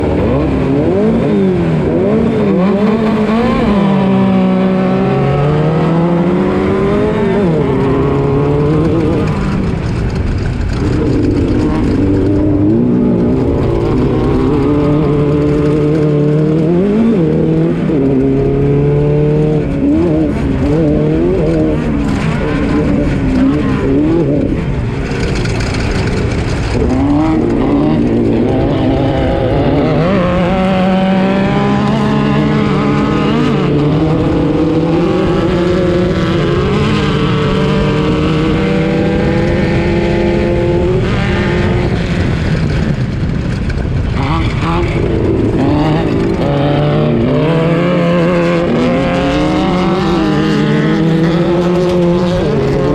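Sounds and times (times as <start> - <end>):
race car engine revving: 0.0 - 52.9
steady rumbling noise: 0.0 - 52.9.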